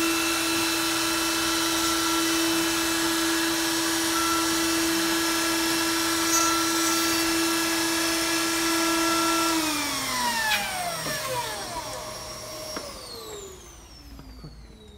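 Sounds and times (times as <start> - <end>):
dust extraction vacuum: 0.0 - 14.9
router whining: 0.0 - 14.9.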